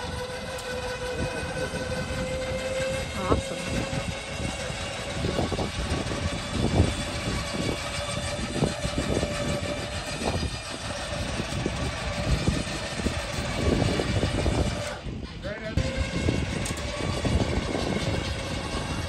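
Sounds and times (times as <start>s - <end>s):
heavy machinery whining: 0.0s - 19.0s.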